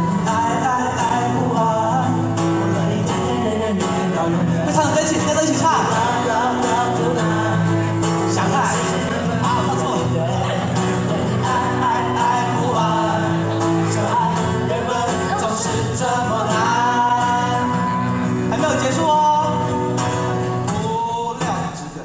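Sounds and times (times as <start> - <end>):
acoustic guitar: 0.0 - 22.0
person singing: 0.0 - 22.0.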